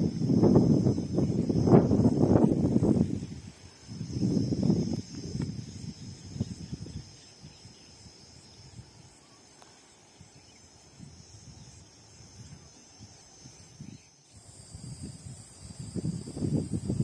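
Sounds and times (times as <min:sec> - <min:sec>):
wind buffeting microphone: 0:00.0 - 0:09.2, 0:10.2 - 0:17.0
insects chirring: 0:00.0 - 0:17.0.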